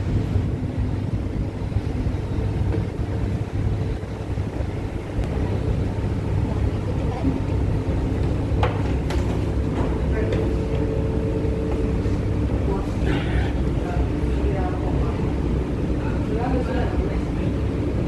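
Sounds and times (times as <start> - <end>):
ship engines rumbling: 0.0 - 18.0.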